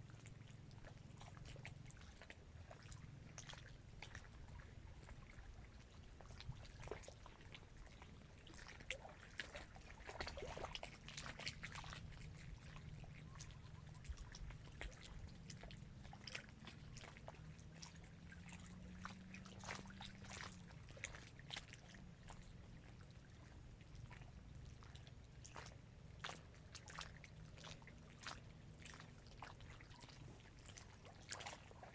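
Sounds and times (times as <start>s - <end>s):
small waves lapping on shore: 0.0s - 31.9s.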